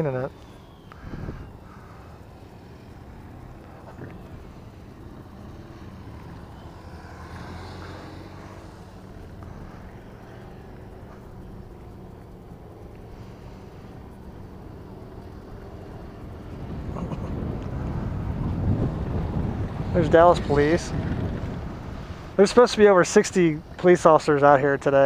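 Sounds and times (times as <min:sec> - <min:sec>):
motorcycle engine running low: 0:00.0 - 0:24.2.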